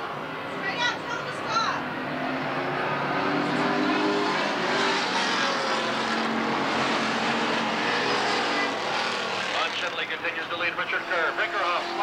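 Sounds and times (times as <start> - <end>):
stock car engines droning: 0.0 - 12.0.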